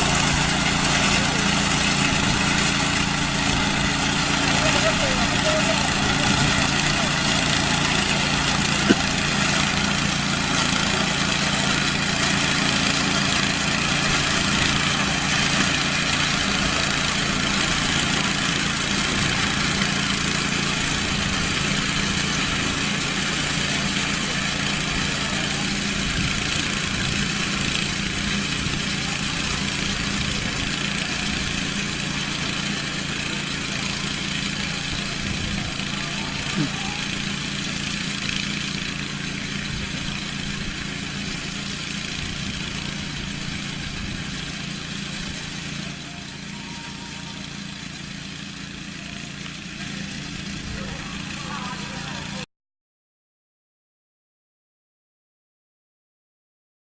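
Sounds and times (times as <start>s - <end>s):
harvesting machine engine running: 0.0s - 52.4s.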